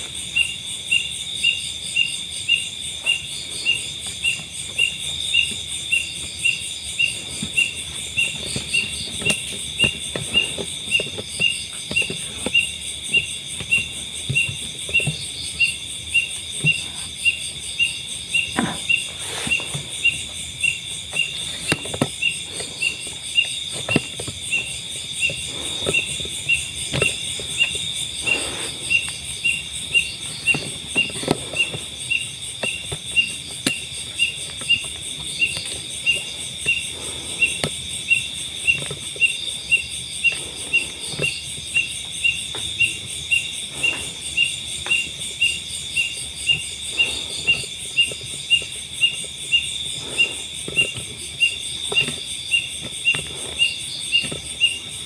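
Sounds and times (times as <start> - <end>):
high-pitched insect trill: 0.0 - 55.0
insect chirping: 0.0 - 55.0.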